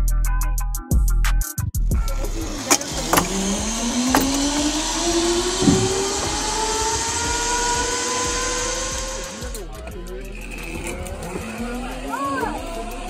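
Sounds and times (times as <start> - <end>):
zipline trolley whine rising: 2.0 - 13.0
zipline trolley clicks: 2.2 - 13.0.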